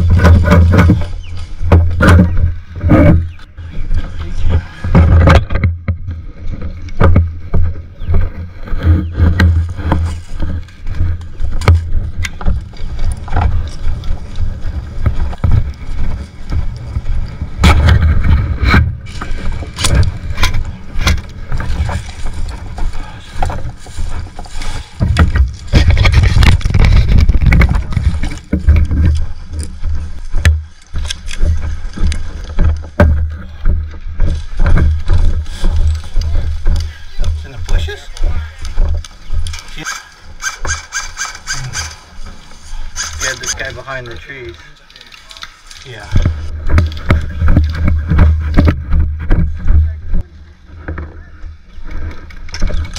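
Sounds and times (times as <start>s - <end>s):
wind buffeting microphone: 0.0s - 43.6s
clicks and knocks from handled gear: 4.9s - 42.0s, 43.0s - 50.2s.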